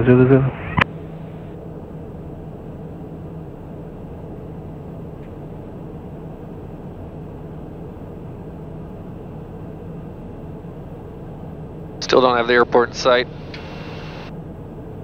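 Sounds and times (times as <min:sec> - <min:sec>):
turboprop cabin drone: 0:00.0 - 0:15.0.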